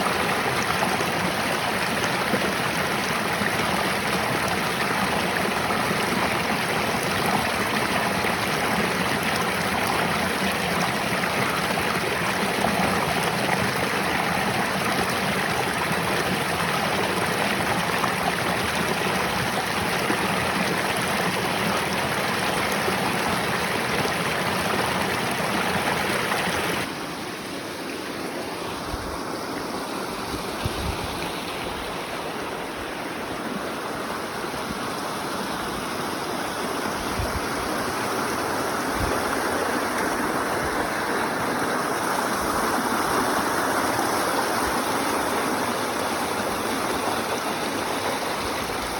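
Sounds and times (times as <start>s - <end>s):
stream rushing over rocks: 0.0s - 48.9s.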